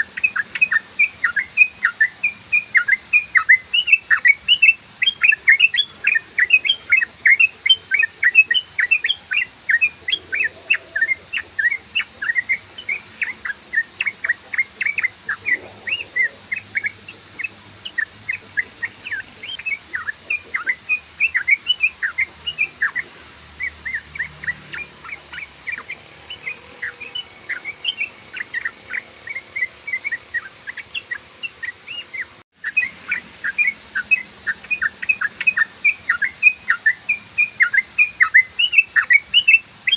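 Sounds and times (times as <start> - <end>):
bulbul singing rapid chirps: 0.0 - 39.9.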